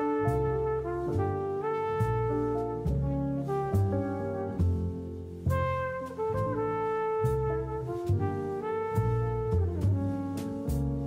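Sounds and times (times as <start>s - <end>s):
background music with held chords: 0.0s - 11.0s.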